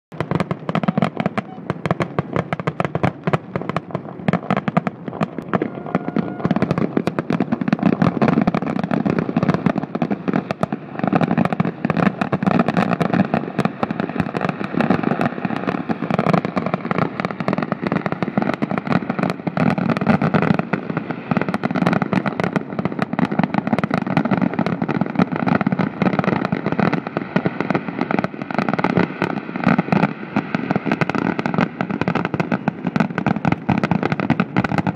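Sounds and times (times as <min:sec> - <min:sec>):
fireworks bangs and crackling pops: 0:00.1 - 0:34.9.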